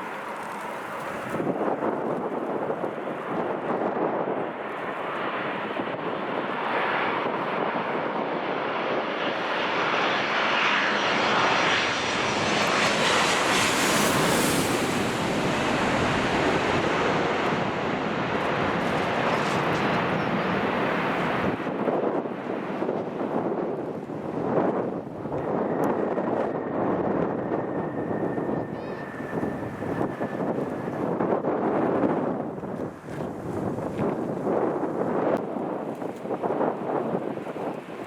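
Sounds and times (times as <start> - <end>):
jet airliner passing: 0.0 - 38.0
wind buffeting microphone: 0.0 - 38.0.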